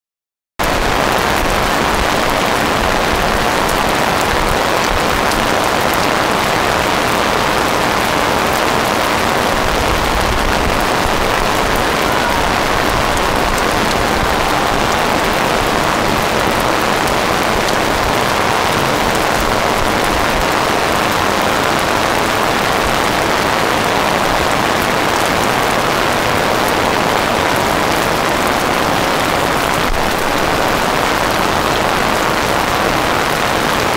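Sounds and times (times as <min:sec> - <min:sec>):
heavy rain: 0:00.6 - 0:33.9
raindrop impacts: 0:00.6 - 0:33.9.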